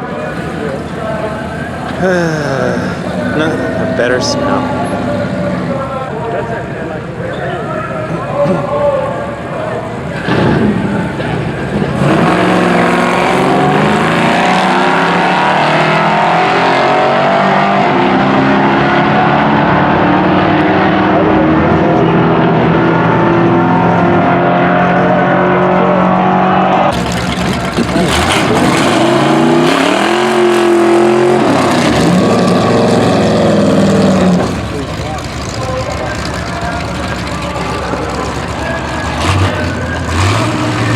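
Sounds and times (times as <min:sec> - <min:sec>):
car engine revving: 0:00.0 - 0:07.2, 0:09.8 - 0:40.9.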